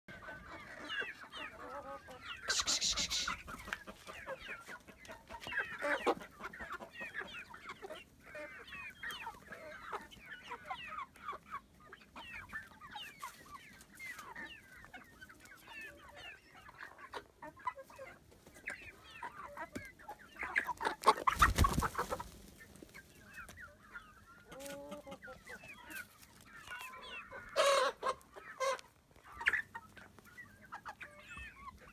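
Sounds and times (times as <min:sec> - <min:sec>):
hens clucking: 0:00.1 - 0:31.9.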